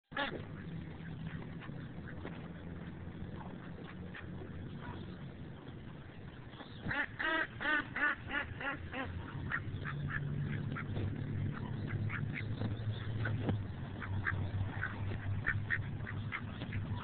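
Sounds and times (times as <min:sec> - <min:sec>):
ducks quacking: 0:00.1 - 0:17.0.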